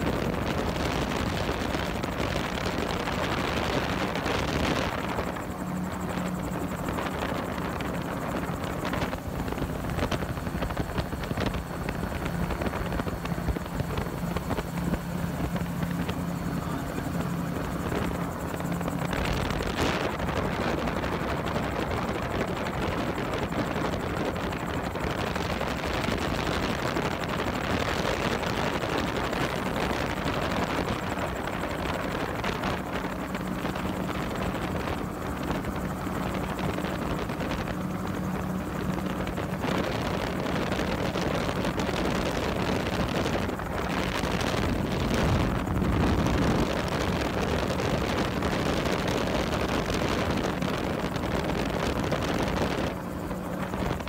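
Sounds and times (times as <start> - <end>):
engine and propeller drone: 0.0 - 54.0
low hum: 0.0 - 54.0
rushing air: 0.0 - 54.0.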